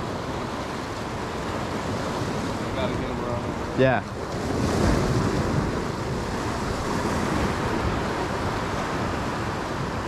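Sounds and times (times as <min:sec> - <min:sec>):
ocean surf washing on shore: 0:00.0 - 0:10.0
wind rumbling on microphone: 0:00.0 - 0:10.0.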